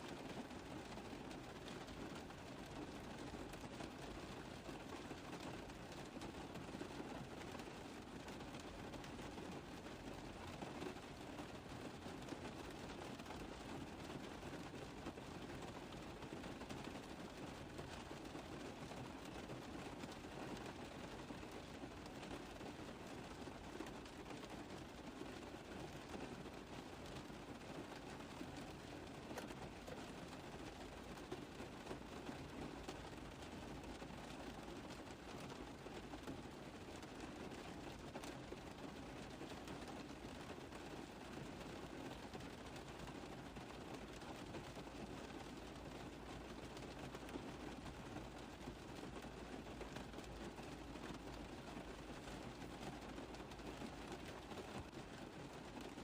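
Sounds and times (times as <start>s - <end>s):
rain on a car roof: 0.0s - 56.0s.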